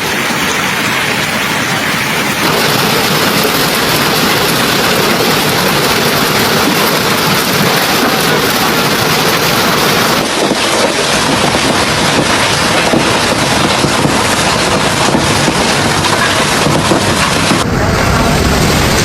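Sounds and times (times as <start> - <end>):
heavy hail and rain pounding: 0.0 - 19.0.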